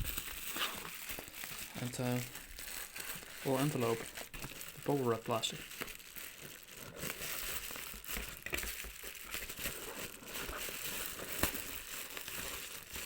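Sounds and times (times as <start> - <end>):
plastic envelope crinkling: 0.0 - 13.0.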